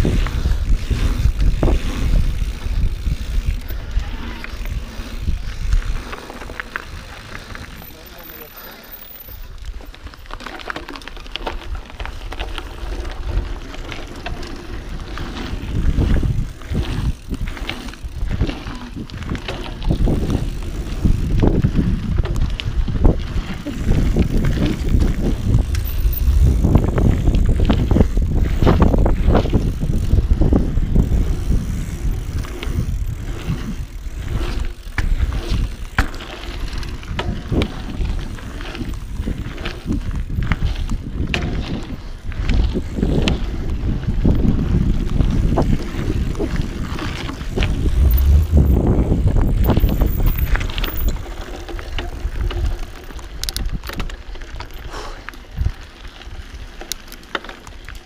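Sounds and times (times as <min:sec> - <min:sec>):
wind buffeting microphone: 0:00.0 - 0:07.8, 0:11.6 - 0:54.2
bike clicks and rattles: 0:00.0 - 0:58.0
bike tyres rolling on dirt: 0:00.0 - 0:58.0.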